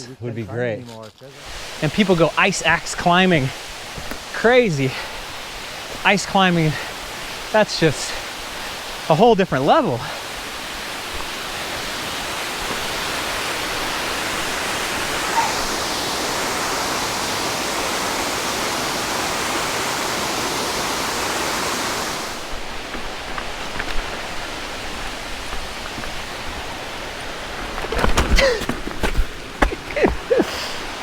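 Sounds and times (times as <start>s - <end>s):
waterfall rushing: 1.4s - 27.8s, 29.4s - 31.0s.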